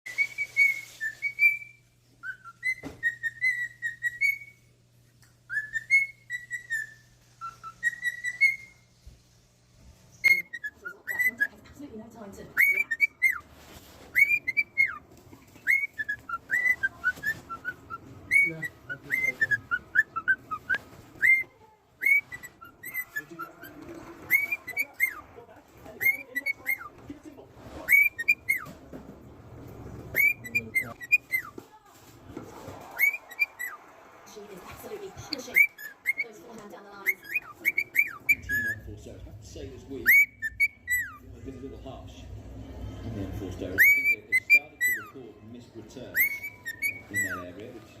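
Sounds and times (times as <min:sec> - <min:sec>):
low background rustle: 0:00.1 - 0:02.8, 0:06.8 - 0:43.8
cockatiel whistling: 0:00.1 - 0:04.7, 0:05.5 - 0:09.0, 0:10.1 - 0:11.7, 0:12.5 - 0:27.0, 0:27.7 - 0:28.8, 0:29.7 - 0:31.7, 0:32.3 - 0:41.6, 0:42.5 - 0:45.4, 0:46.0 - 0:48.0.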